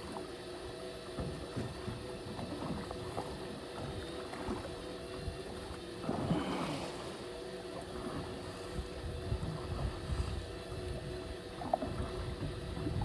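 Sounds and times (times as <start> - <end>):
boat motor hum: 0.0 - 13.0
water splashing against hull: 0.0 - 13.0.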